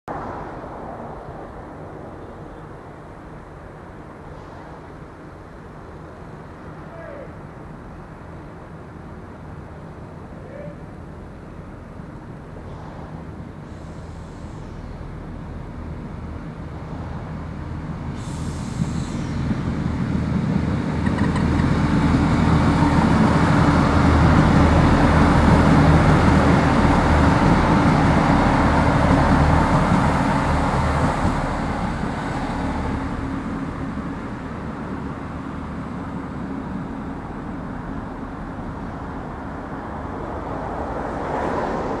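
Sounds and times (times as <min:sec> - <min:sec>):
diesel train engine drone: 0:00.1 - 0:42.0
train wheels rumbling: 0:00.1 - 0:42.0.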